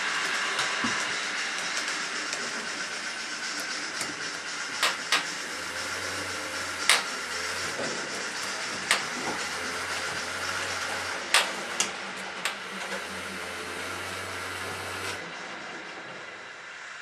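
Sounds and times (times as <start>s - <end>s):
model train motor whirring: 0.0s - 17.0s
wheels clicking on rails: 0.0s - 17.0s.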